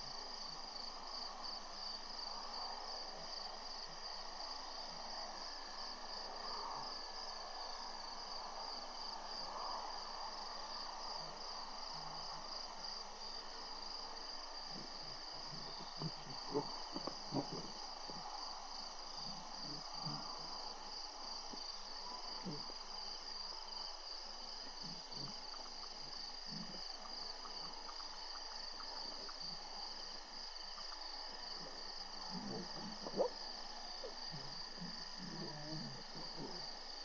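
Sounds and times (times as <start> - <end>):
crickets chirring: 0.0 - 37.0.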